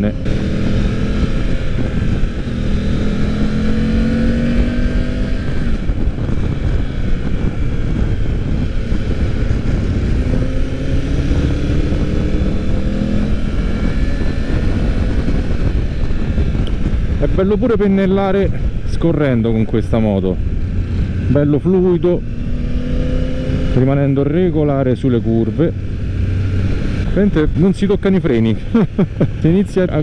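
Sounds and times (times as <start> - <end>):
motorcycle engine revving: 0.0 - 18.8, 19.9 - 30.0
wind rush: 0.0 - 30.0.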